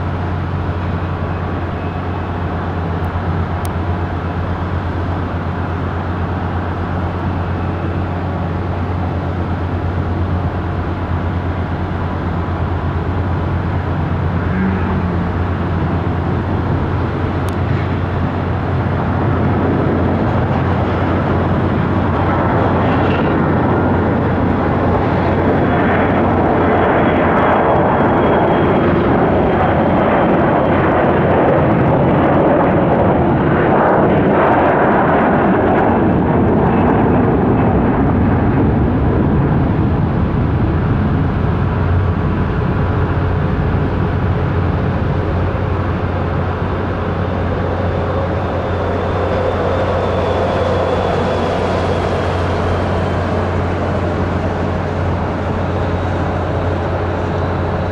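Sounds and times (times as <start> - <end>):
jet engine roar with high whine: 0.0 - 57.9.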